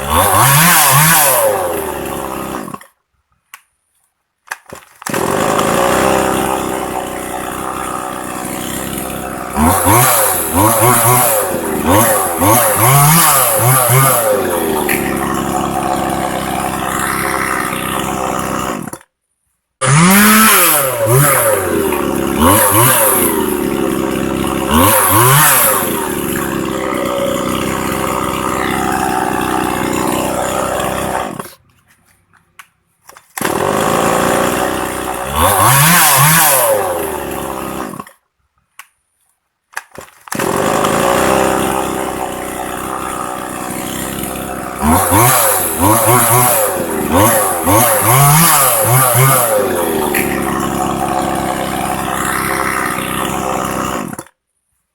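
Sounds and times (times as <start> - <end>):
chainsaw revving: 0.0 - 3.0, 4.6 - 19.1, 19.8 - 31.7, 33.4 - 38.2, 39.9 - 54.4.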